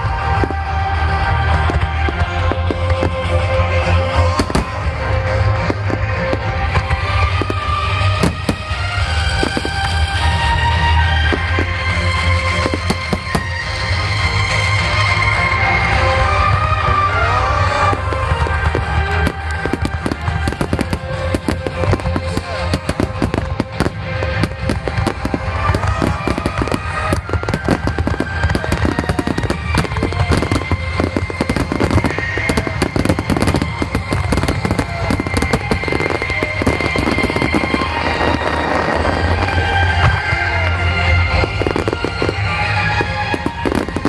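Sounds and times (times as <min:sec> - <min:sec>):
fireworks bursting and crackling: 0:00.0 - 0:44.0
music over loudspeakers: 0:00.0 - 0:44.0.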